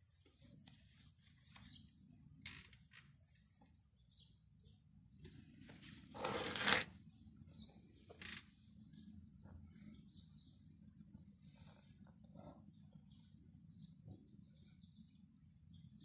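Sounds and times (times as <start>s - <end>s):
low steady background rumble: 0.0s - 16.0s
small birds chirping: 0.0s - 16.0s.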